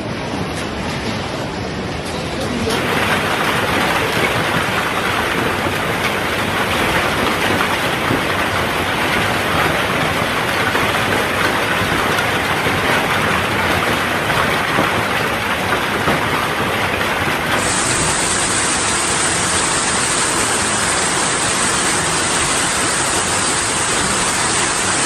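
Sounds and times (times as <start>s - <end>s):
heavy rain and hail: 0.0s - 25.0s.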